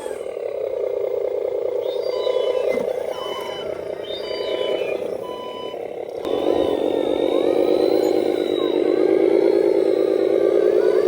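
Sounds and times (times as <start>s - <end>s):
motor drone: 0.0s - 11.0s
reversing warning beeps: 2.0s - 11.0s.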